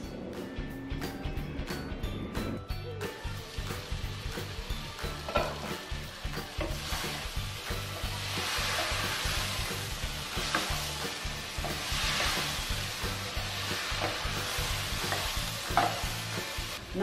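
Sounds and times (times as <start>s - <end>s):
vegetables sizzling in pot: 3.2s - 17.0s.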